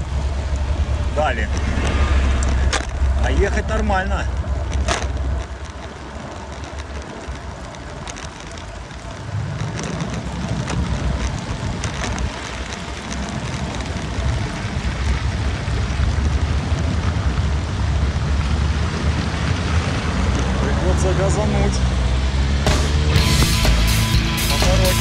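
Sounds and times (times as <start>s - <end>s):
wind buffeting microphone: 0.0s - 20.8s
bicycle road noise on wet street: 0.0s - 25.0s.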